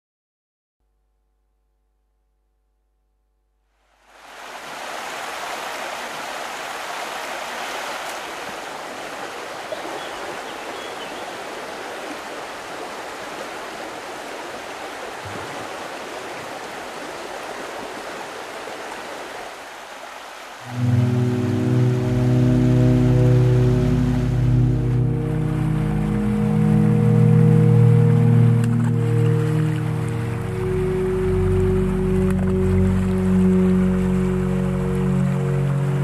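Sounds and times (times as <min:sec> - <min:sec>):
stream water rushing: 0:03.8 - 0:36.0.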